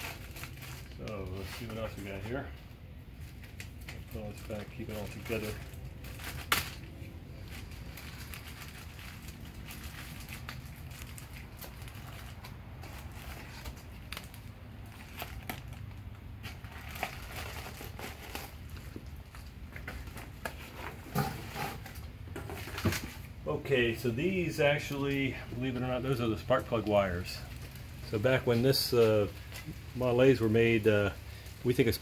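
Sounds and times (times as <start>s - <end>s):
bags crinkling and rustling: 0.0s - 32.0s.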